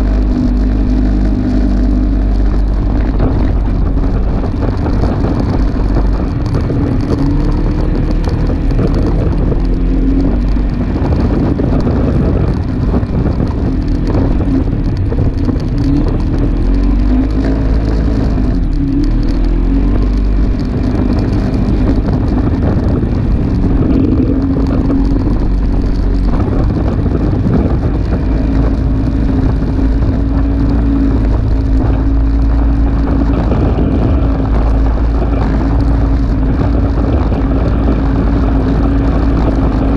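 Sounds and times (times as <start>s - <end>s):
single-cylinder engine revving: 0.0s - 39.9s.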